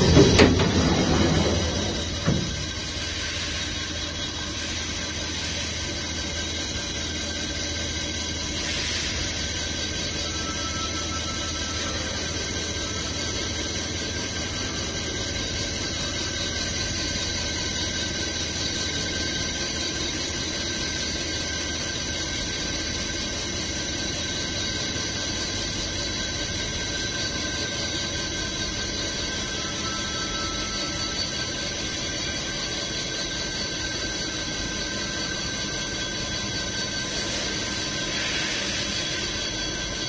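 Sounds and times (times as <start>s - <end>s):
high-pitched whine: 0.0s - 20.6s, 23.9s - 40.0s
machine hum: 0.0s - 40.0s.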